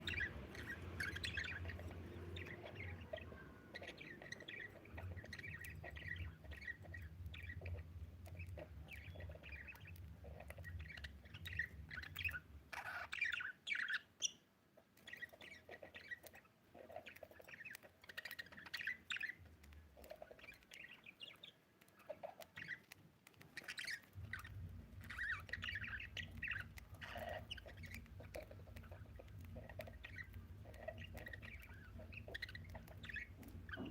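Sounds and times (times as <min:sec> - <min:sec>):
budgerigar chirping and warbling: 0:00.0 - 0:14.4, 0:15.0 - 0:23.0, 0:23.6 - 0:33.9.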